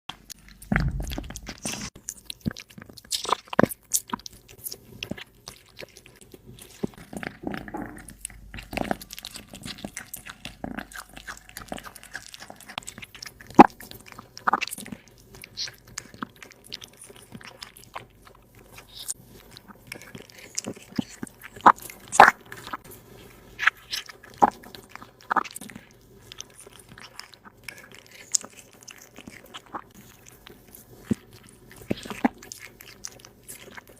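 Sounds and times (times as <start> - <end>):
cat chewing food: 0.1 - 33.9.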